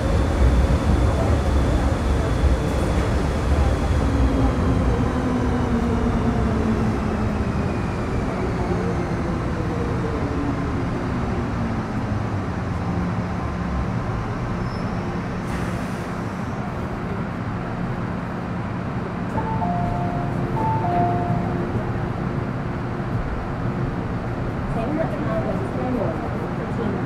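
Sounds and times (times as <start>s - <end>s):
wheels rumbling on rail: 0.0s - 27.0s.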